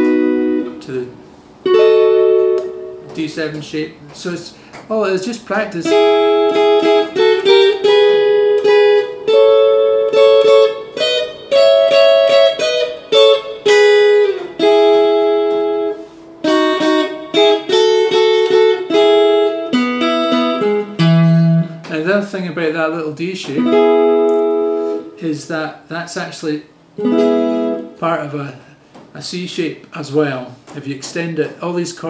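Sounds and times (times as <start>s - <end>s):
electric guitar rockabilly lick: 0.0s - 22.4s, 23.4s - 25.2s, 27.0s - 28.4s.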